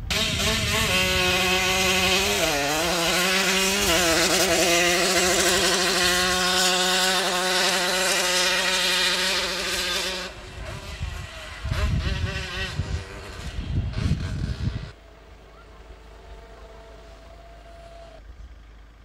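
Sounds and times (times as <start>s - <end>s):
moped engine running hard: 0.0s - 19.0s.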